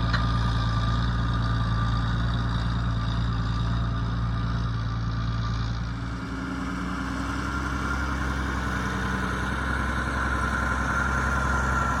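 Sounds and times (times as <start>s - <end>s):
tractor diesel engine: 0.0s - 12.0s.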